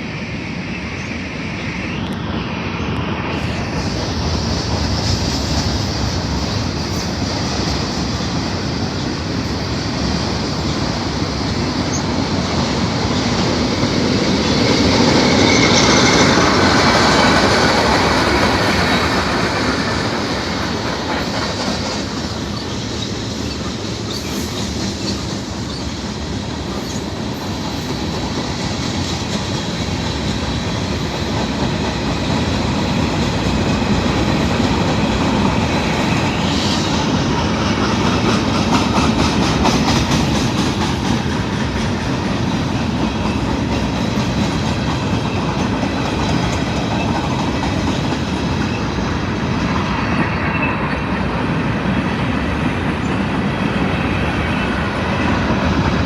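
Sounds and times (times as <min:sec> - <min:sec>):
train wheels rumbling on rails: 0:00.0 - 0:56.0
clickety-clack over rail joints: 0:03.7 - 0:56.0.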